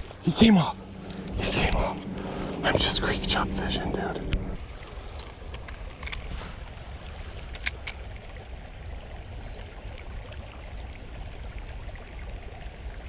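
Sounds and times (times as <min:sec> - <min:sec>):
creek running: 0:00.0 - 0:13.0.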